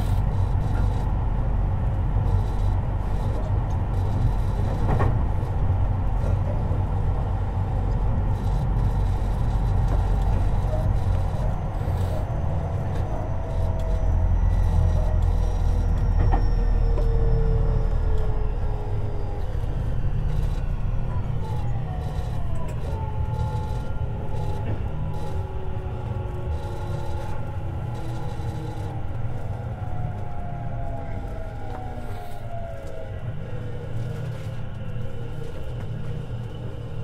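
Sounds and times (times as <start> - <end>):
electric train rumble: 0.0 - 37.0.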